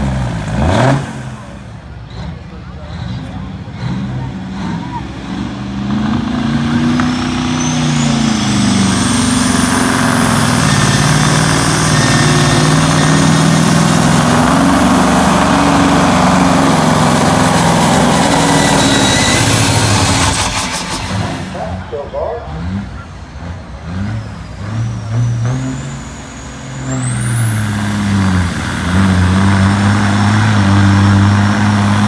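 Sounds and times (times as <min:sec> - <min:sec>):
truck diesel engine at full load: 0:00.0 - 0:32.0.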